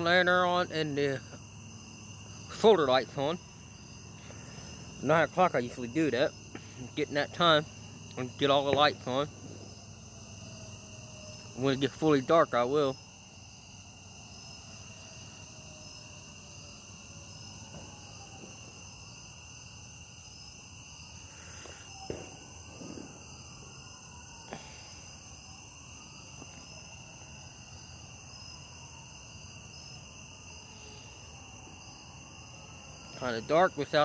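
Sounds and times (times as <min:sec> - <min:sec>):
crickets and insects trilling: 0:00.0 - 0:34.0.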